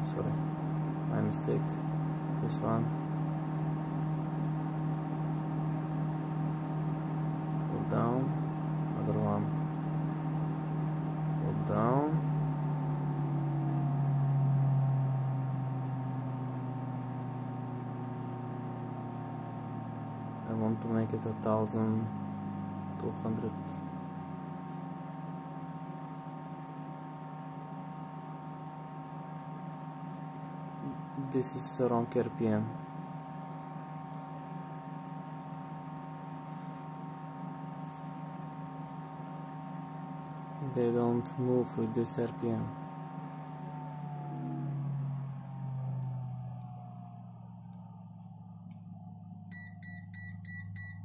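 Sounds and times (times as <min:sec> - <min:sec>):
computer fans humming: 0:00.0 - 0:51.0.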